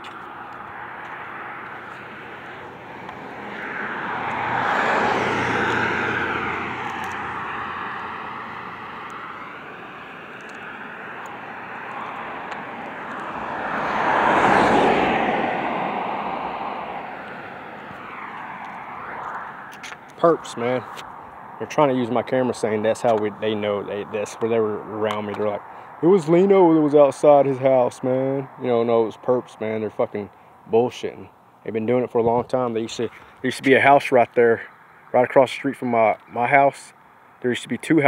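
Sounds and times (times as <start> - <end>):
vehicles passing by: 0.0 - 38.0.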